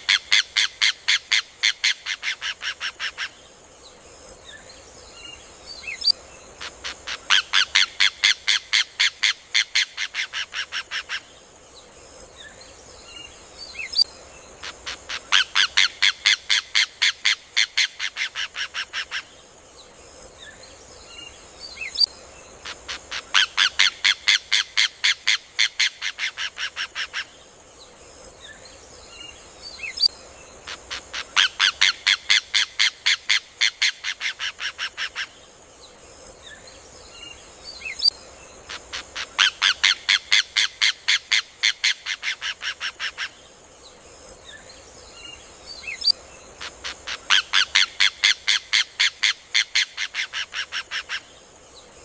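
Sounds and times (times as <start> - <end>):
faint bird chirps: 0.0 - 52.0
steady high hiss: 0.0 - 52.0.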